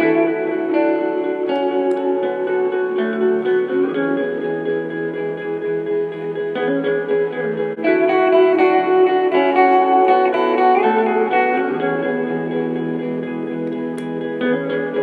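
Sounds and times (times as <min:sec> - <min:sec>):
layered guitar with effects: 0:00.0 - 0:15.0.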